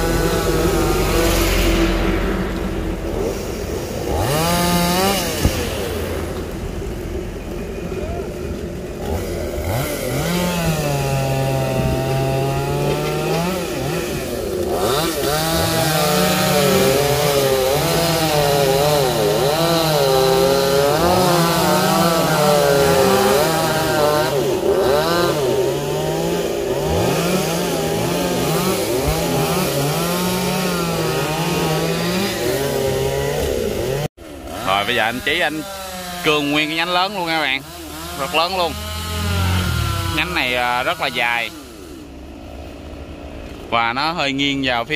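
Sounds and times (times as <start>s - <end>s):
chainsaw cutting wood: 0.0s - 44.0s.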